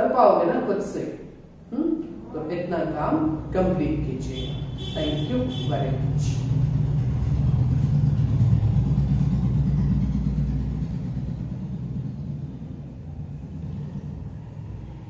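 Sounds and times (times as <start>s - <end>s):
low rumble: 1.5s - 4.9s, 5.9s - 15.0s.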